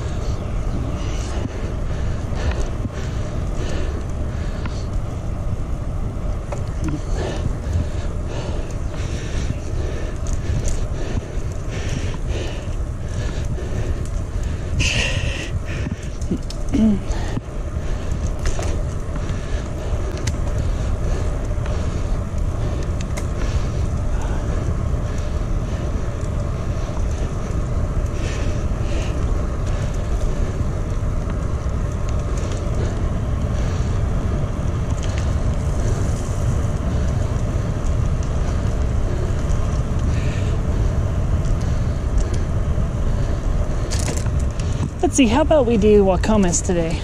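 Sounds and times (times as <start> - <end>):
bicycle tyre road noise: 0.0 - 47.0.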